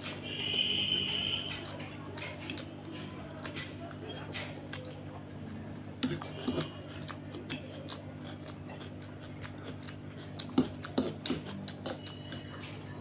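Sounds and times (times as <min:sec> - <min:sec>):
wet chewing and mouth smacks: 0:00.0 - 0:12.7.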